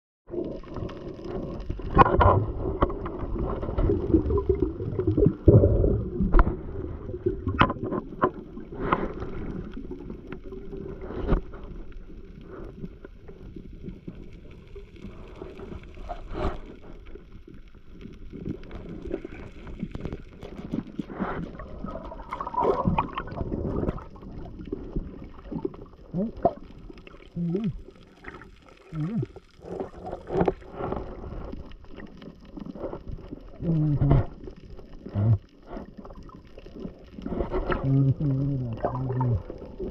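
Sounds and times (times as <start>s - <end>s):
muffled underwater rushing water: 0.3s - 39.9s.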